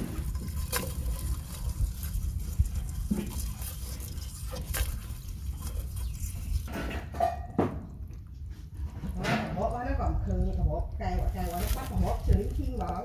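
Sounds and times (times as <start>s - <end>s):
crabs scrabbling in metal pot: 0.0s - 7.9s, 8.6s - 13.0s.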